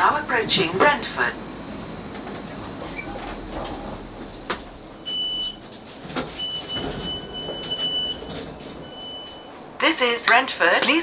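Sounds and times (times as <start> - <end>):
train cabin noise: 0.0 - 11.0.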